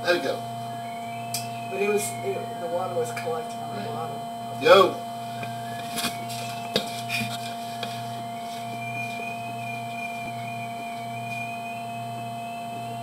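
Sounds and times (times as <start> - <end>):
pulsing low drone: 0.0 - 13.0
steady electrical hum: 0.0 - 13.0.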